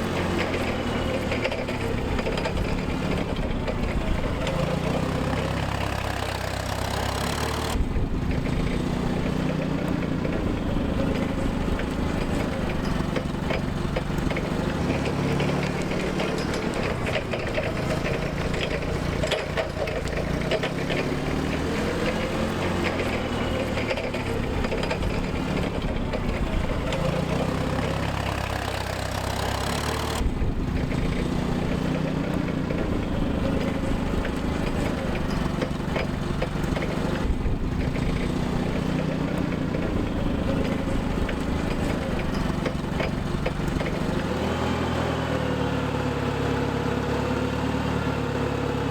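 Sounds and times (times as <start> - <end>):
forklift engine running: 0.0 - 48.9.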